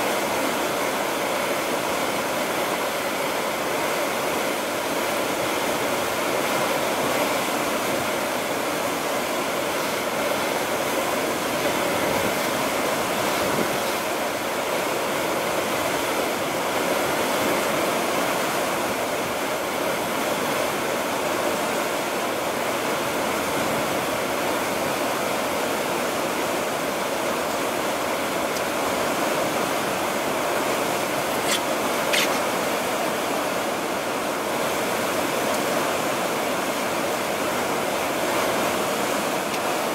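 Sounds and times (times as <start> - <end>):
sea water rushing along hull: 0.0 - 39.9.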